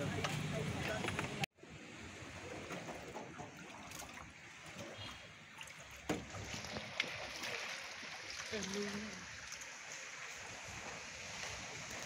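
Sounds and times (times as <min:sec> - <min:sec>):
wading through water: 0:00.2 - 0:12.0.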